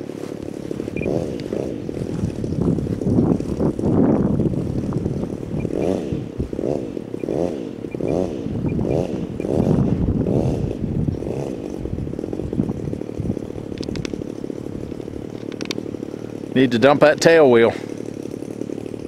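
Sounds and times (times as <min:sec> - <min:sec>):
model airplane motor revving: 0:00.0 - 0:19.0.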